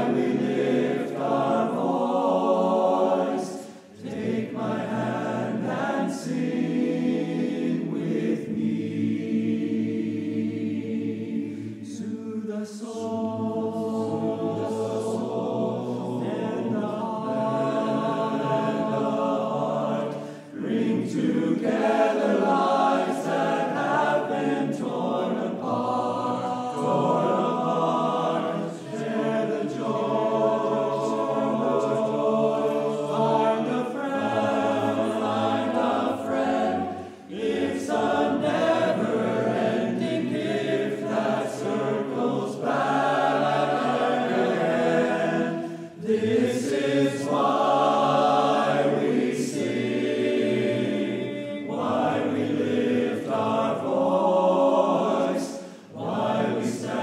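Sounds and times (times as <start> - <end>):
men's chorus singing: 0.0 - 57.0.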